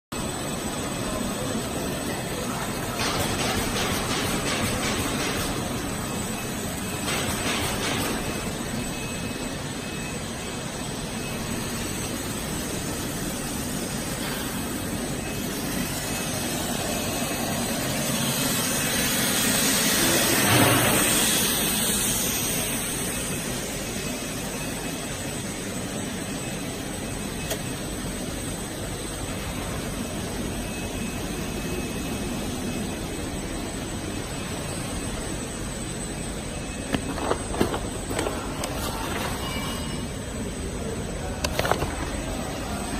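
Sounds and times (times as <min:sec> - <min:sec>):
machinery whirring and hissing: 0:00.2 - 0:42.9
faint high whine: 0:08.2 - 0:42.9.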